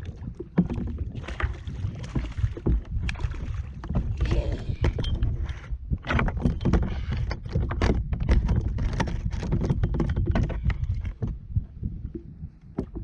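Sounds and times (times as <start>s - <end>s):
knocks and thumps on kayak: 0.0s - 13.0s.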